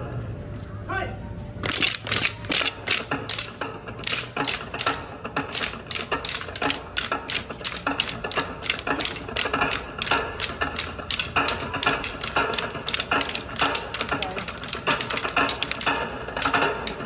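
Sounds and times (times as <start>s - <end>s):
wooden staffs clacking together: 1.6s - 17.0s.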